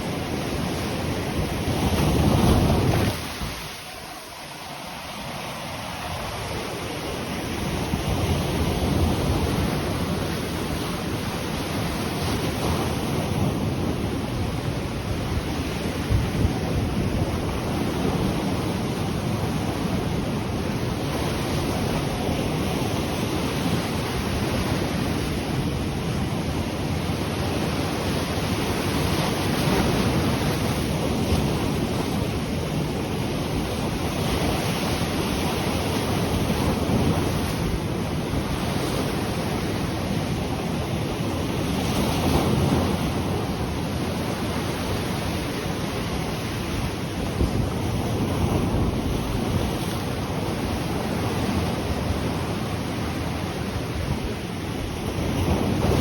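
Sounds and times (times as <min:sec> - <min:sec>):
ocean surf washing ashore: 0:00.0 - 0:56.0
wind rumbling on microphone: 0:00.0 - 0:56.0.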